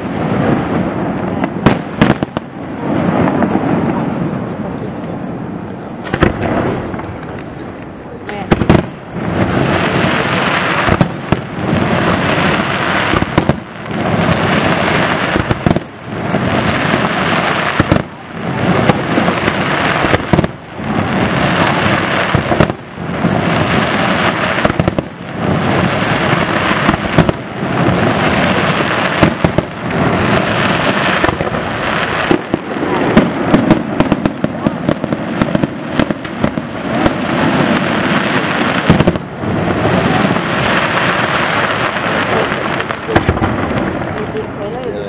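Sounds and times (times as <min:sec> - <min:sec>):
firework crackling: 0:00.0 - 0:45.0.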